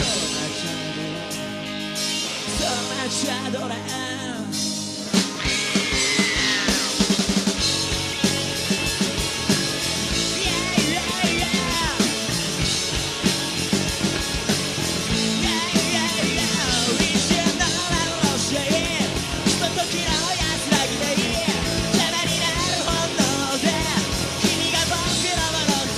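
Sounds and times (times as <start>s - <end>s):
bending lead guitar line: 0.0s - 25.9s
distorted guitars: 0.0s - 25.9s
drum kit: 0.0s - 25.9s.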